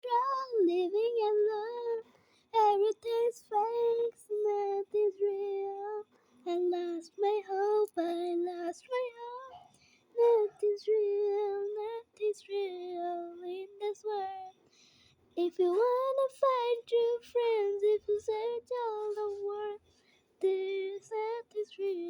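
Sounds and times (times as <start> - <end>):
girl singing: 0.0 - 14.7, 15.3 - 22.0.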